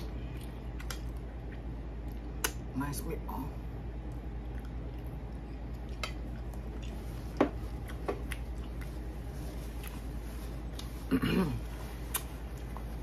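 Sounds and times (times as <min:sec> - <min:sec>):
person chewing: 0:00.0 - 0:02.7, 0:04.0 - 0:13.0
steady low hum: 0:00.0 - 0:13.0.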